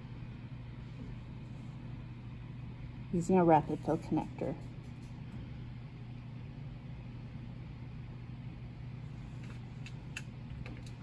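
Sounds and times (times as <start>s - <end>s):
blower fan humming: 0.0s - 11.0s.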